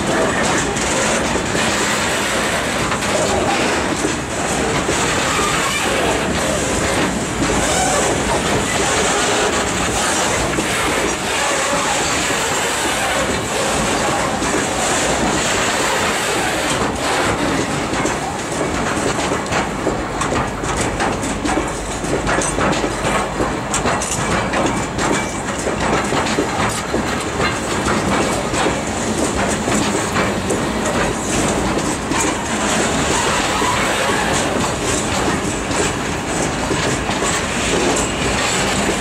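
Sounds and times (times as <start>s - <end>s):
freight train rumbling past: 0.0s - 39.0s
wheels clicking over rail joints: 0.0s - 39.0s.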